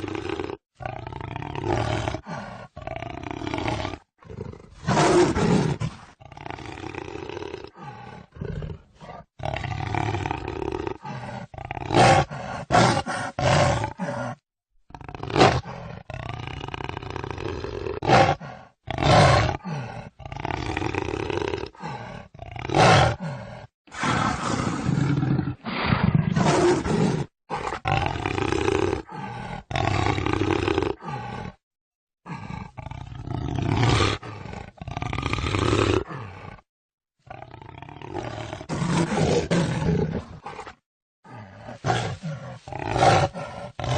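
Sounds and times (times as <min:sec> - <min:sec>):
jaguar roars and growls: 0:00.0 - 0:31.6, 0:32.2 - 0:43.9.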